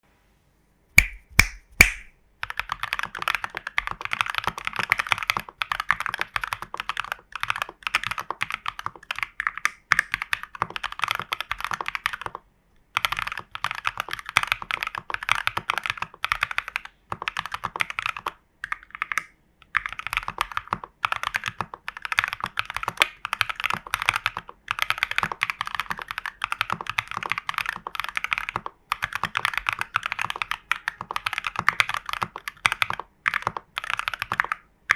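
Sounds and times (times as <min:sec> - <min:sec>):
fast typing on mechanical keyboard: 0:02.4 - 0:34.7.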